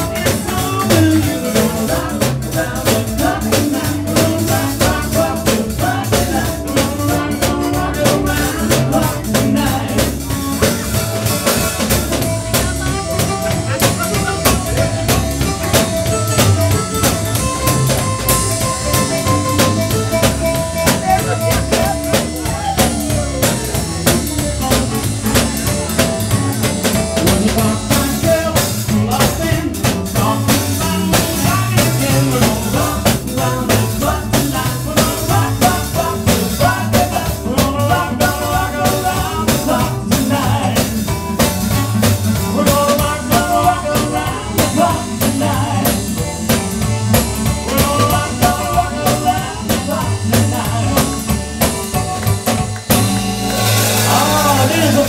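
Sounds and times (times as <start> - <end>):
saxophone melody: 0.0 - 37.2, 37.8 - 55.0
drum kit beat with cymbal hits: 0.0 - 55.0
live band playing: 0.0 - 55.0.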